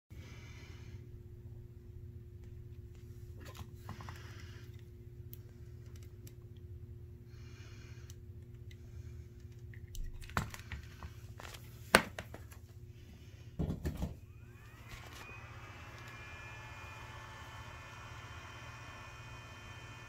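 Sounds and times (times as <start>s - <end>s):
low steady hum: 0.2s - 20.0s.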